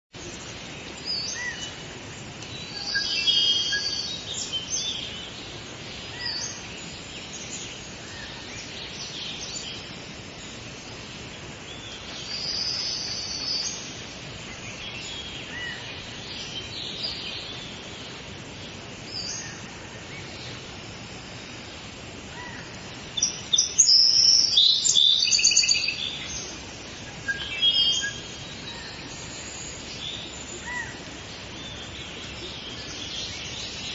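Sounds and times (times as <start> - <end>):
birds calling and chirping: 0.2 - 33.9
insects hissing: 0.2 - 33.9.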